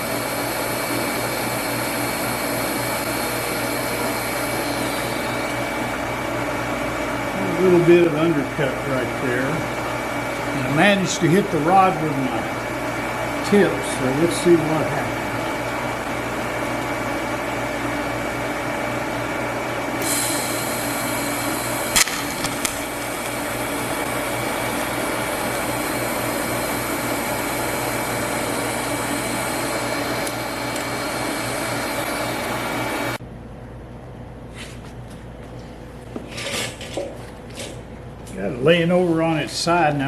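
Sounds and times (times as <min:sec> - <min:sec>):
welding arc buzzing and whining: 0:00.0 - 0:33.2.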